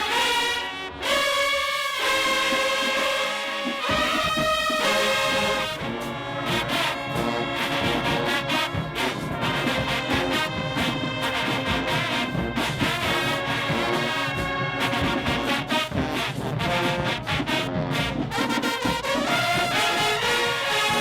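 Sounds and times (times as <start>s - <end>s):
brass section playing chords: 0.0s - 21.0s
percussion hits: 2.0s - 21.0s
low drums: 3.7s - 21.0s.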